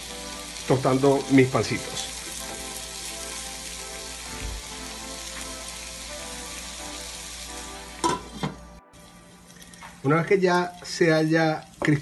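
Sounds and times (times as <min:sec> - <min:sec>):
onions sizzling in butter: 0:00.0 - 0:12.0.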